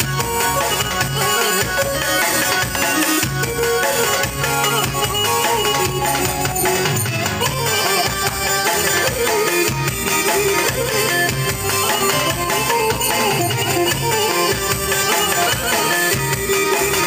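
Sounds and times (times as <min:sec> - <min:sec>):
balkan dance music: 0:00.0 - 0:17.0.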